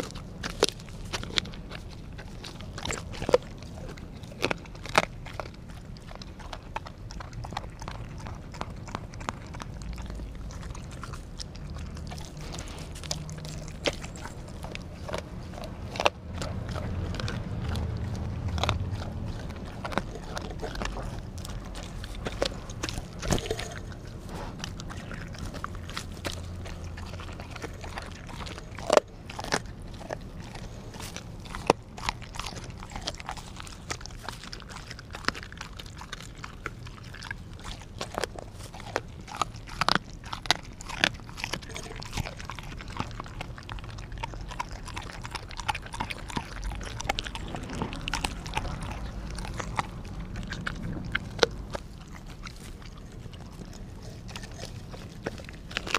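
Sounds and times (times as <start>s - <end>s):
dog chewing meat and bone: 0.0s - 55.9s.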